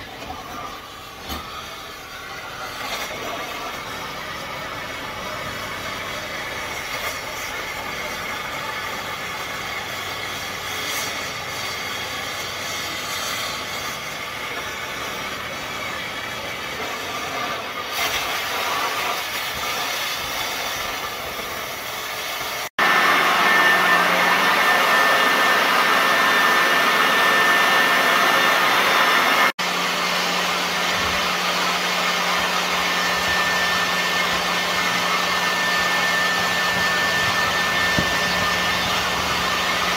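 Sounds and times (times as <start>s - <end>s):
cutting torch hissing: 0.0s - 39.9s.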